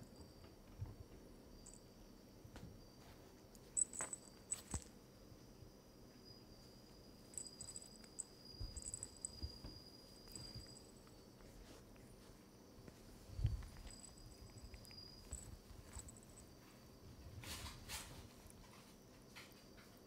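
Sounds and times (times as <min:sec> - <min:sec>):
insect chirping: 0:00.0 - 0:20.0.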